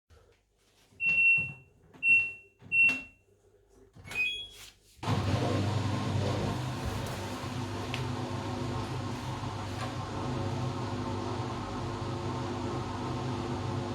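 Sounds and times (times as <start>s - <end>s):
washing machine humming and whirring: 0.8s - 13.9s.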